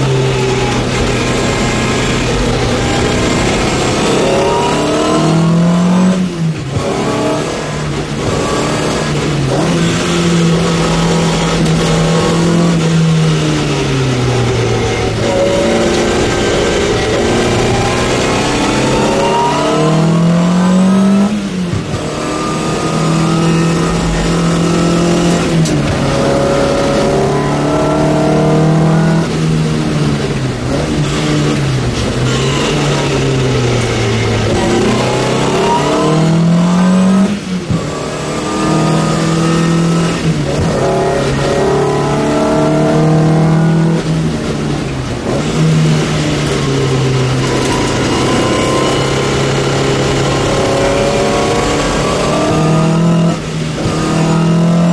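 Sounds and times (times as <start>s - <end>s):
race car engine revving: 0.0s - 54.9s.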